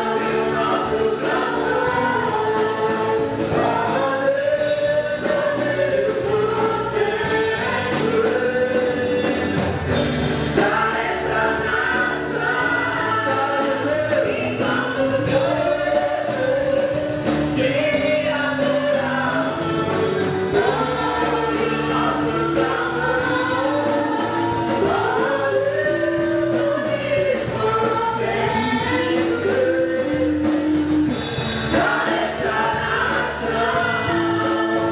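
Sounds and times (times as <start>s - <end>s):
choir singing gospel song: 0.0s - 34.9s.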